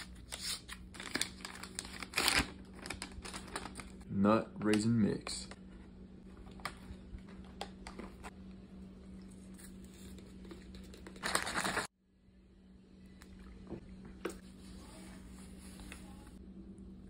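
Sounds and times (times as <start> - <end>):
faint low hum: 2.8 - 17.0.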